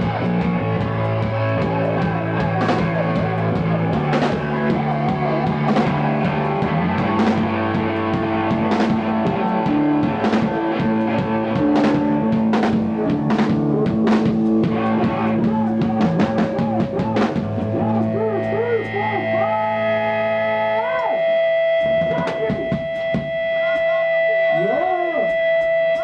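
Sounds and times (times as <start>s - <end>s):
drum kit beat: 0.0s - 26.0s
guitar: 0.0s - 26.0s
rock music: 0.0s - 26.0s.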